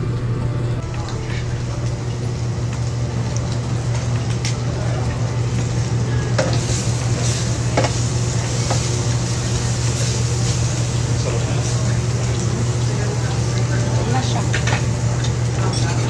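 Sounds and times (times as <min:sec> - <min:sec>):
steady low hum: 0:00.0 - 0:16.0
meat sizzling on a grill: 0:01.0 - 0:16.0.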